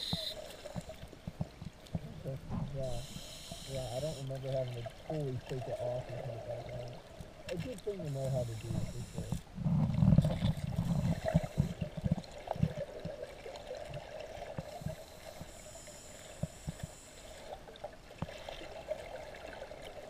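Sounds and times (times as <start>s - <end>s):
underwater bubbles gurgling: 0.0s - 20.0s.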